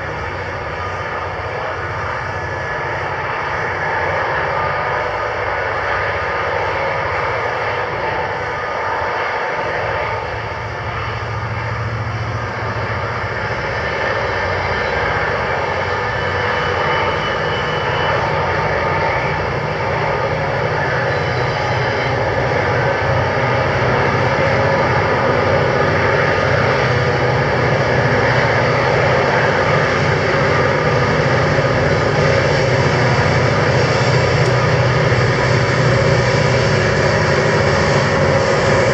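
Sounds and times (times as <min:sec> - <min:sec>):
locomotive engines droning: 0:00.0 - 0:38.9.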